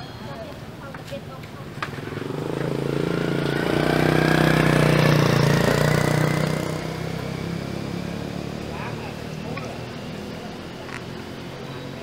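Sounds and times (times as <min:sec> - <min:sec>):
vehicle engine passing by: 0:01.7 - 0:12.0
rising engine whine: 0:02.0 - 0:12.0.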